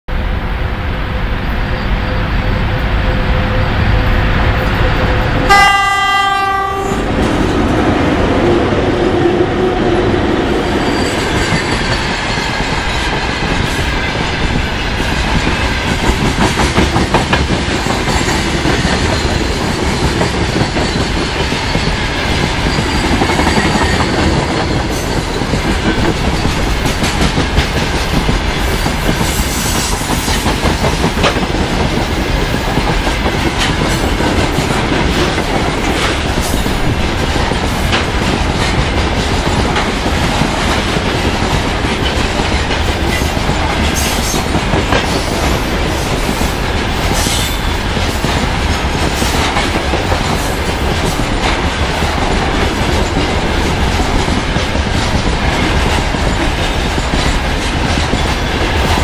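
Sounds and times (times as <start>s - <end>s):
freight train passing: 0.1s - 59.0s.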